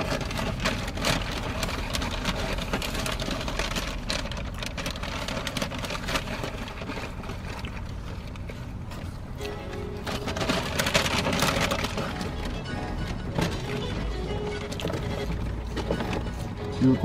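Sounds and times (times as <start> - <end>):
car engine rumble: 0.0 - 17.0
paper bags rustling: 0.0 - 17.0.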